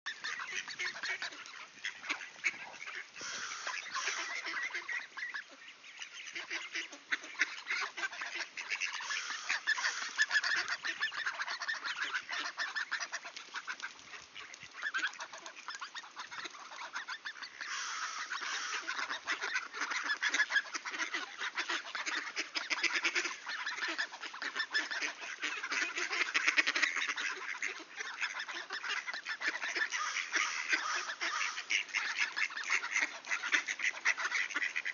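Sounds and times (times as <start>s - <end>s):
ducks quacking: 0.1s - 34.9s.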